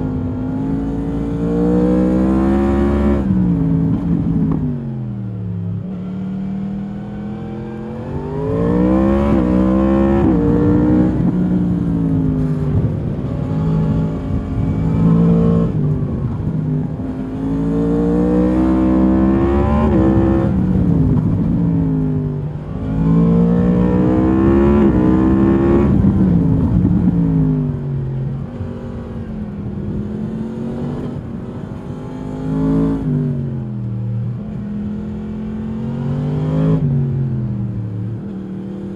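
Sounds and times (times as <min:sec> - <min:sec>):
motorcycle engine accelerating hard: 0:00.0 - 0:38.9.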